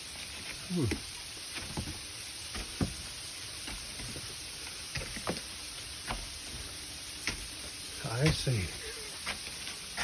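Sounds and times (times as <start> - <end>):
footsteps on snowy steps: 0.0 - 10.0
steady hiss: 0.0 - 10.0.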